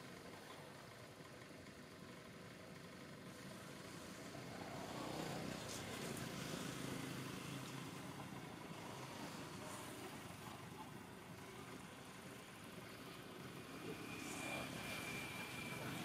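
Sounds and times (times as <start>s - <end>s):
passing motor vehicle engine: 2.8s - 16.0s.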